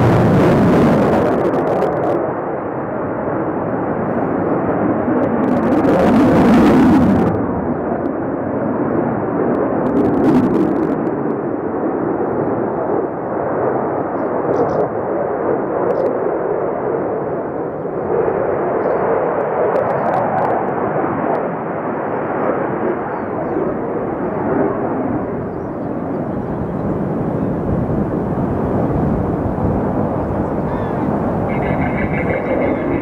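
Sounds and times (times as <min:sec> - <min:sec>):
jet engine rushing: 0:00.0 - 0:33.0.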